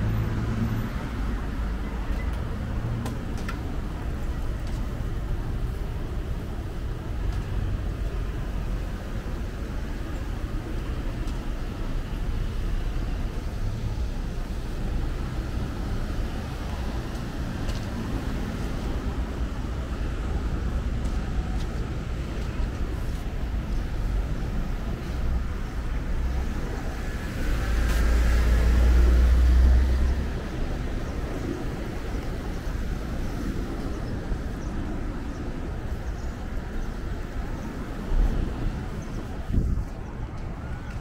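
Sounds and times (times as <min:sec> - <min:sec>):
city traffic rumble: 0:00.0 - 0:41.0.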